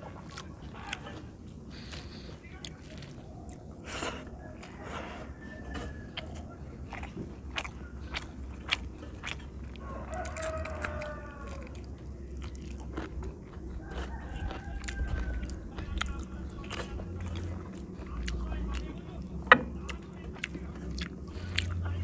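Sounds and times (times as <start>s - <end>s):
crunchy clicks and smacks: 0.0s - 3.8s, 5.7s - 22.0s
man chewing food: 0.0s - 22.0s.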